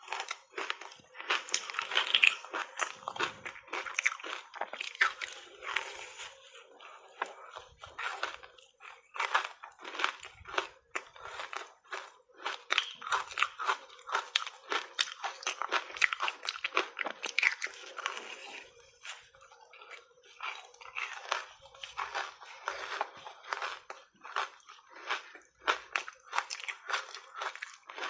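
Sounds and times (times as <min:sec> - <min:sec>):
crunching and chewing ice: 0:00.0 - 0:28.0.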